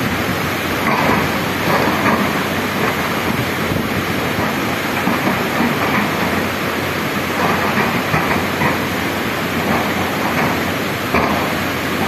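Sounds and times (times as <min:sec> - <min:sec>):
excavators running: 0:00.0 - 0:12.0
river rushing: 0:00.0 - 0:12.0.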